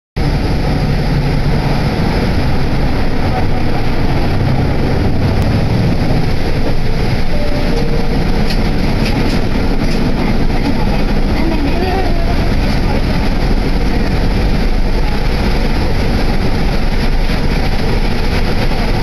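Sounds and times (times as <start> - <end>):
bus engine and road rumble: 0.2 - 19.0.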